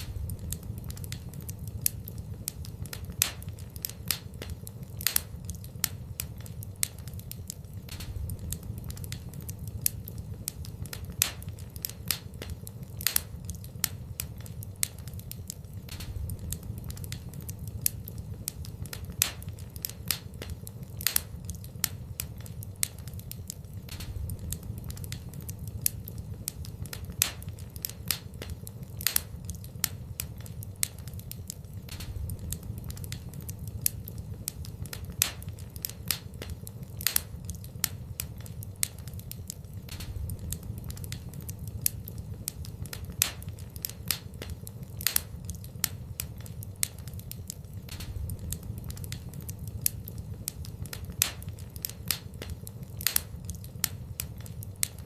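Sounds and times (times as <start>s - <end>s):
fire crackling and popping: 0.0s - 55.0s
low steady fire rumble: 0.0s - 55.0s.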